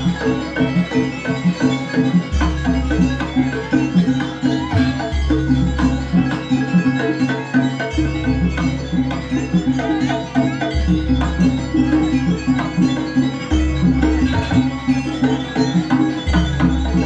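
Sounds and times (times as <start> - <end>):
repeating struck metal tones: 0.0 - 17.0.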